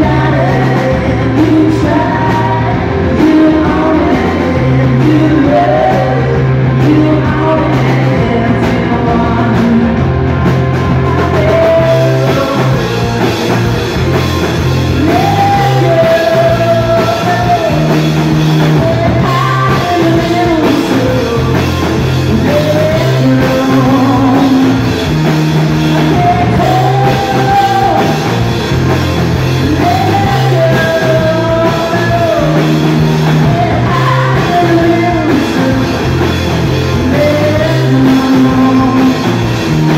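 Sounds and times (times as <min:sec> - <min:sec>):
man singing: 0:00.0 - 0:13.8, 0:14.7 - 0:28.9, 0:29.5 - 0:39.9
distorted electric guitar: 0:00.0 - 0:39.9
drum kit: 0:00.0 - 0:39.9
electric bass: 0:00.0 - 0:39.9.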